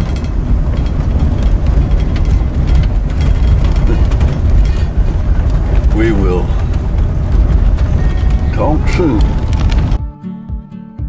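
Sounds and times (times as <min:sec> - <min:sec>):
vehicle rumbling on dirt road: 0:00.0 - 0:10.0.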